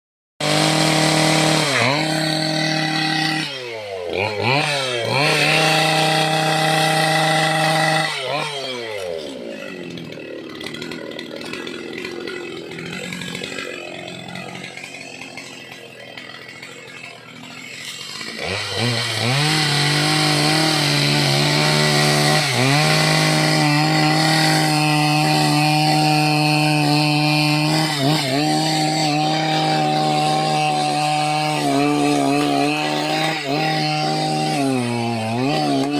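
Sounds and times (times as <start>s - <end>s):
chainsaw cutting wood: 0.4s - 35.9s
chainsaw revving: 0.4s - 35.9s.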